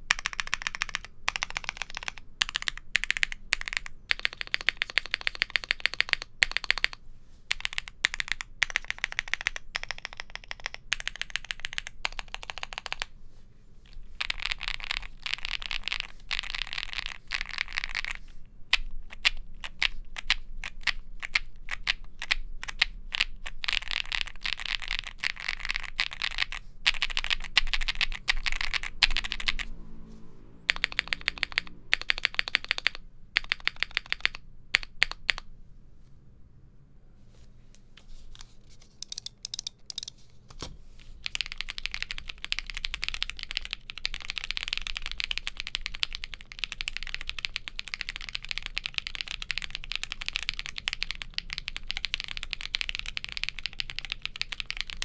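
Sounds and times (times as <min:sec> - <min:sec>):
mechanical keyboard typing: 0:00.0 - 0:13.1, 0:14.2 - 0:29.7, 0:30.7 - 0:35.5, 0:38.8 - 0:55.0.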